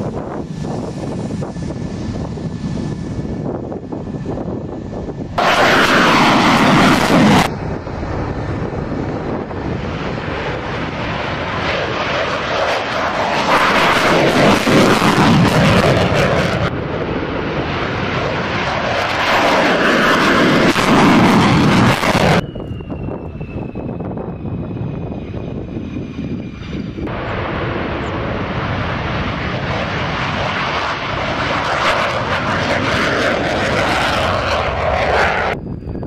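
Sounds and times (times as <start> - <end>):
fighter jet engine roar: 0.0 - 36.0.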